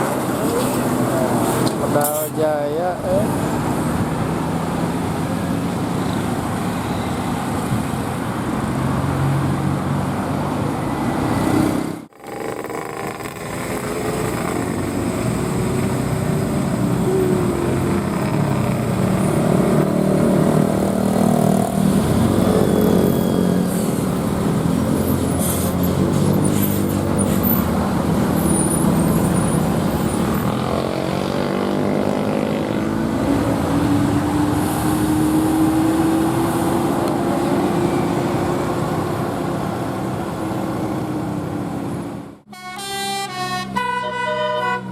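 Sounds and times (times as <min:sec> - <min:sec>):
bus engines passing: 0:00.0 - 0:44.9
heavy road traffic passing: 0:00.0 - 0:44.9.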